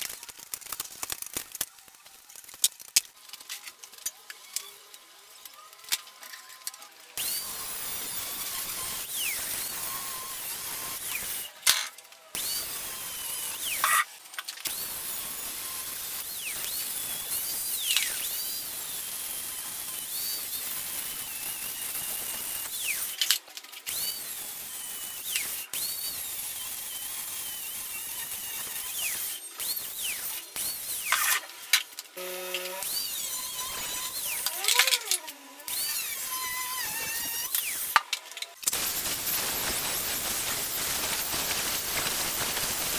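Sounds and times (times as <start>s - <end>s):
angle grinder cutting steel: 7.2s - 23.3s, 23.9s - 42.9s.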